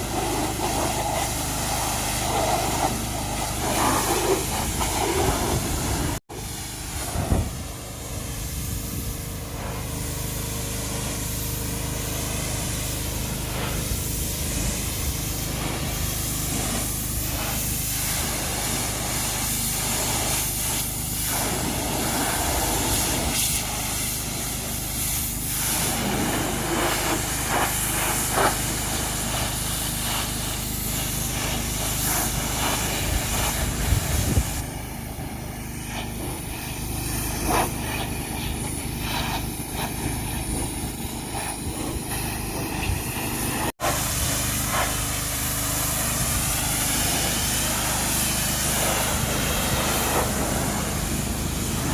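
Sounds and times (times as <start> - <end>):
pressure washer water jet hissing: 0.0 - 51.9.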